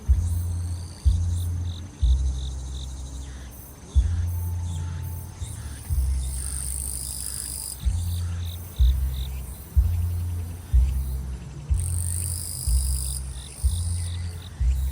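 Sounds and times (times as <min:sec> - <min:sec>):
deep bass music thumping: 0:00.0 - 0:14.9
insects chirping and trilling: 0:00.0 - 0:14.9.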